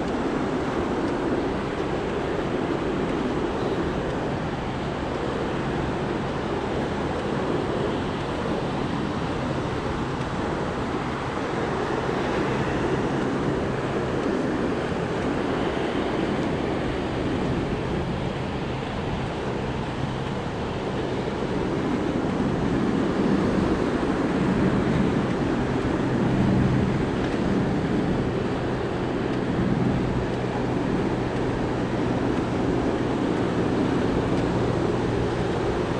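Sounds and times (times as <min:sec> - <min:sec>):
ocean surf on sandy beach: 0:00.0 - 0:35.9.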